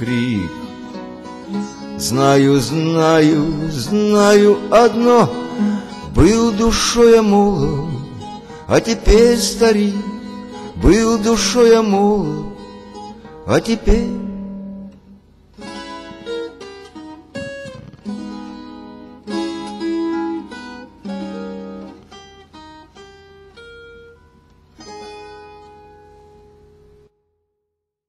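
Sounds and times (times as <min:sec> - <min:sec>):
guitar picked notes and chords: 0:00.0 - 0:27.4.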